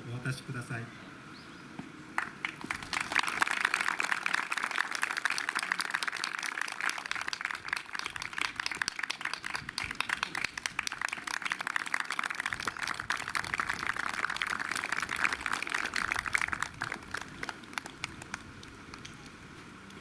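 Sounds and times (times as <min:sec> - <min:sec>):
crowd applauding: 0:02.2 - 0:20.0.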